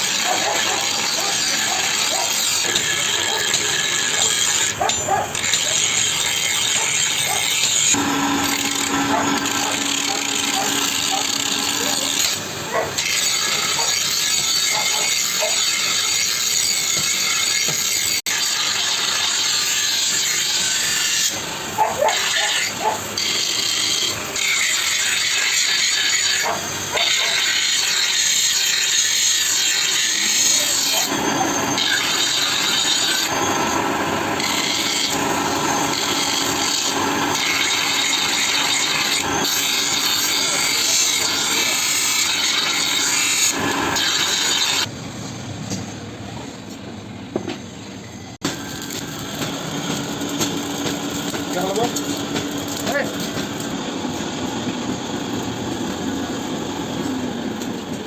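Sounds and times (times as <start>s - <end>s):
power tool grinding steel: 0.0s - 44.9s, 48.4s - 58.0s.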